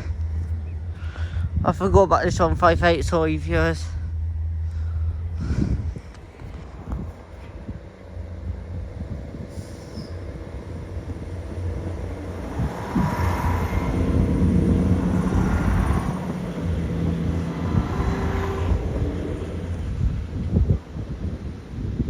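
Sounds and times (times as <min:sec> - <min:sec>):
diesel engine rumble: 0:00.0 - 0:22.0.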